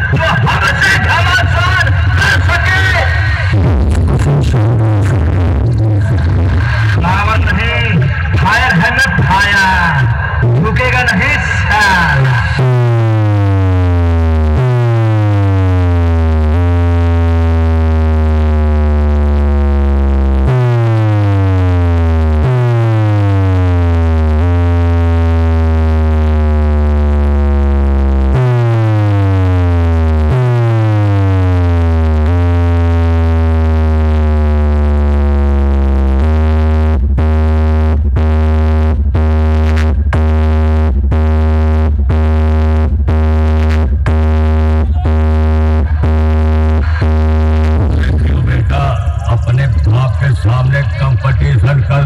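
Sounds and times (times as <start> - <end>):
deep bass notes: 0.0 - 52.0.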